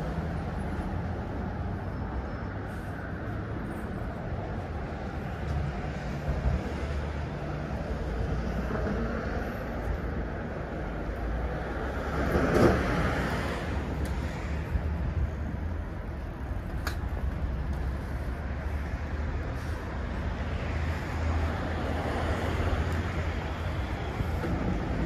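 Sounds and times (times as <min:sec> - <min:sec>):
road noise hum: 0:00.0 - 0:25.0.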